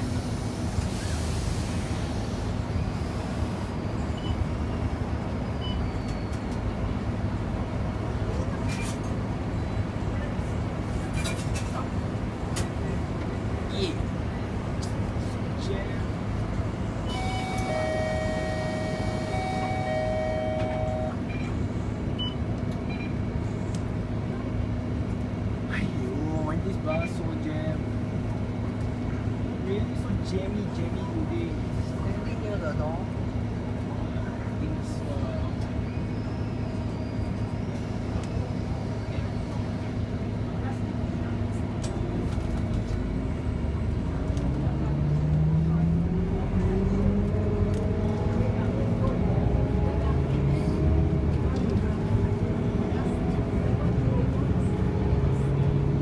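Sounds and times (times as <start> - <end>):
bus diesel engine hum: 0.0 - 56.0.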